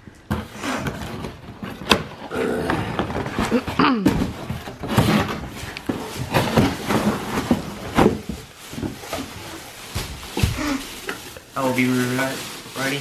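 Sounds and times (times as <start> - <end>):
cardboard flaps scraping: 0.3 - 11.0
plastic bag rustling: 0.3 - 13.0.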